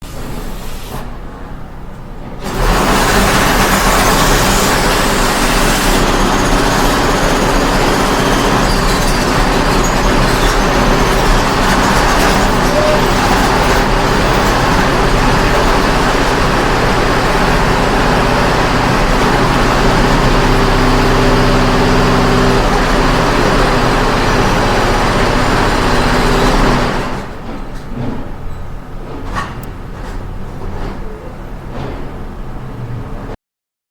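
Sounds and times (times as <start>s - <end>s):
heavy machinery engines running: 0.0s - 33.4s.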